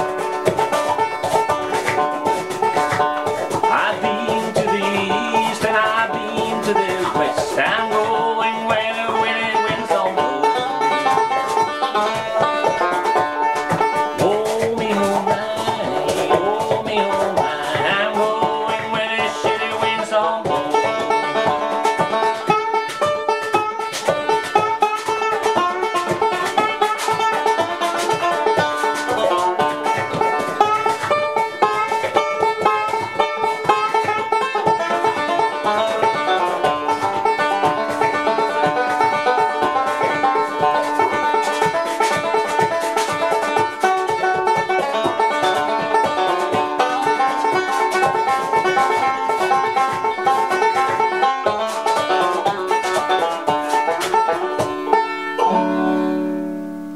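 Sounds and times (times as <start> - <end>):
banjo bluegrass roll: 0.0 - 56.9.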